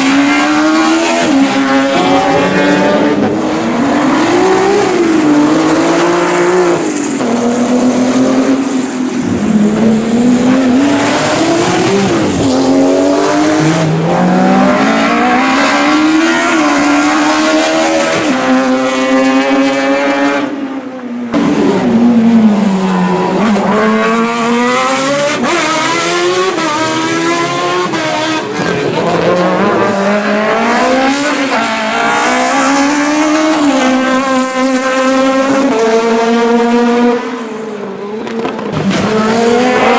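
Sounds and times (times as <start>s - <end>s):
racing car engine revving: 0.0s - 20.6s, 21.2s - 39.9s.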